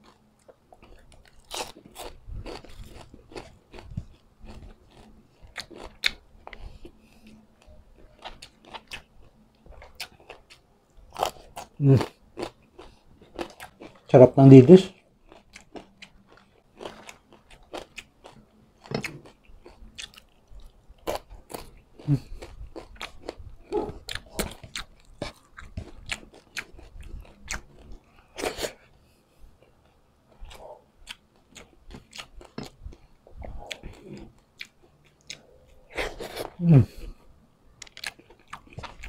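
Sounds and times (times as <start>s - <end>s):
chewing crispy fried fish: 0.0s - 14.2s, 14.9s - 28.9s, 29.6s - 37.2s, 37.8s - 39.0s.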